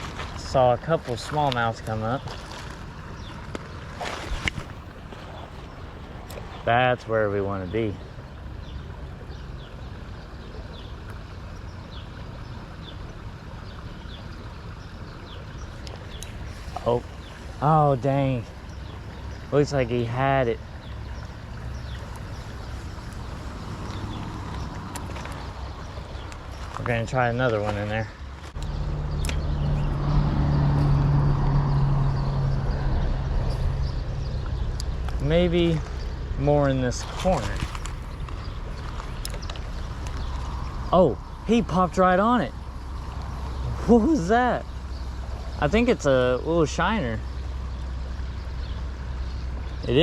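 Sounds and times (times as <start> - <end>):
bird chirping: 7.6 - 50.0.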